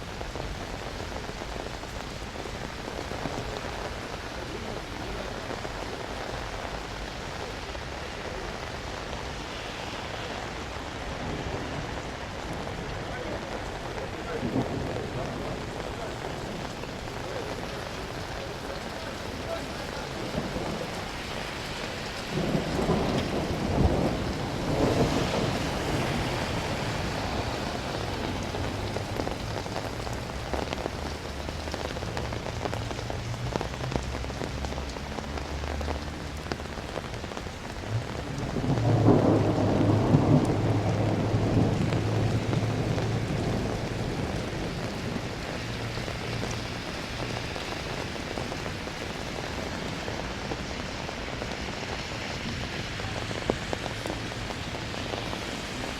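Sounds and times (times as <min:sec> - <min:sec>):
thunder cracking and rumbling: 0:00.0 - 0:55.4
steady rain falling: 0:00.0 - 0:55.9.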